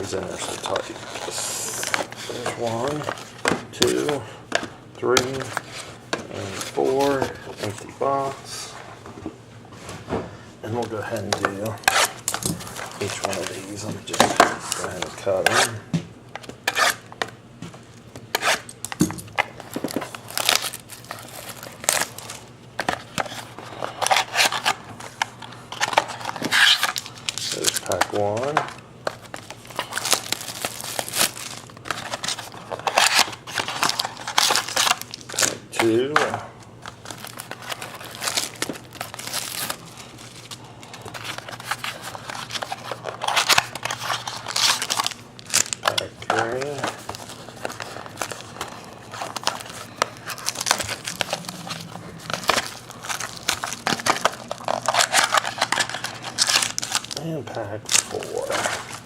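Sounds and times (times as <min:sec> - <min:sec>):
wrapping crinkling and rustling: 0:00.0 - 0:09.0, 0:10.6 - 0:15.7, 0:17.8 - 0:59.0.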